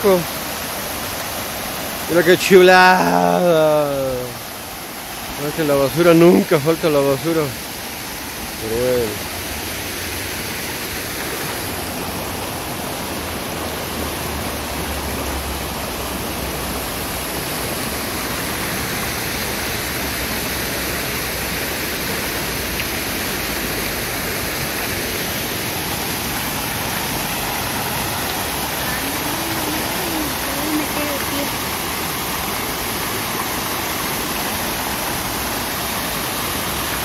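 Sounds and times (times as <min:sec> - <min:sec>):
water rushing: 0:00.0 - 0:37.0.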